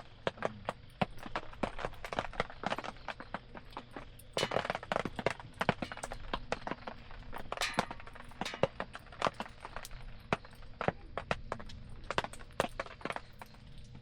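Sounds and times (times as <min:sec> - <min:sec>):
campfire crackling: 0:00.0 - 0:14.0
sharp pops and snaps: 0:00.0 - 0:14.0.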